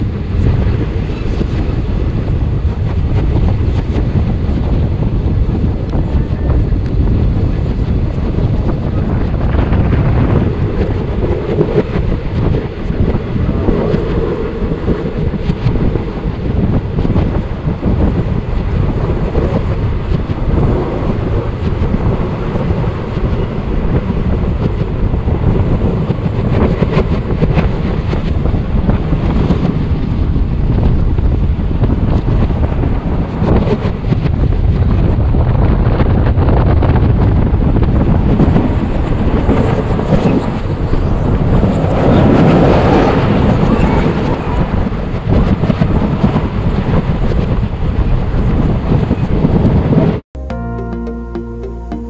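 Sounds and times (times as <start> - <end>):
train running noise: 0.0 - 50.2
wind buffeting microphone: 0.0 - 50.3.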